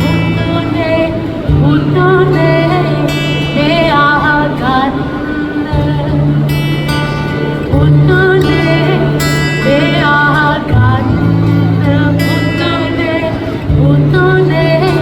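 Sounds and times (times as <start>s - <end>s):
held bass notes: 0.0s - 15.0s
person singing: 0.0s - 15.0s
plucked guitar: 0.0s - 15.0s.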